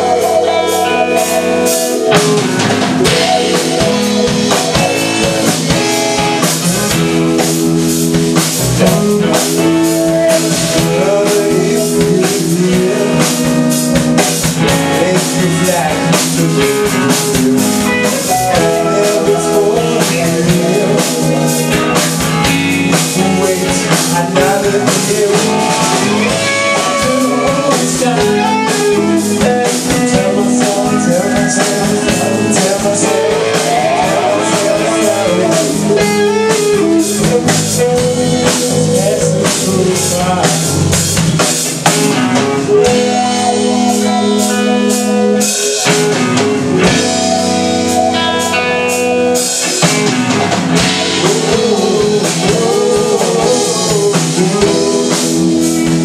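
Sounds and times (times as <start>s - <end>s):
drum kit: 0.0s - 56.0s
electric bass: 0.0s - 56.0s
electric guitar: 0.0s - 56.0s.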